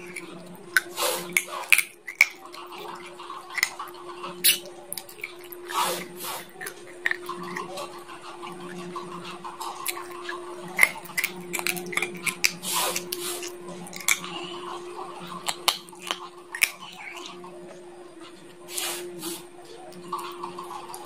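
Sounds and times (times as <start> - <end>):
teeth crunching bones: 0.0 - 21.0.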